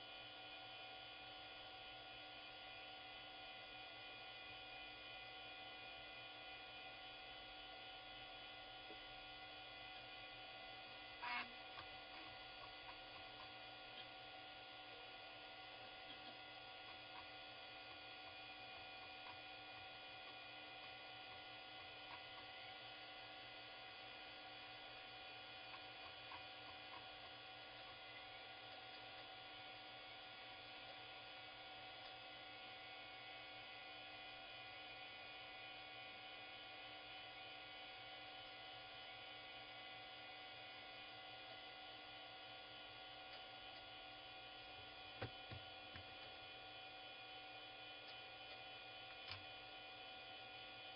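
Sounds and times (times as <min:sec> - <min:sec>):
electrical hum and whine: 0:00.0 - 0:50.9.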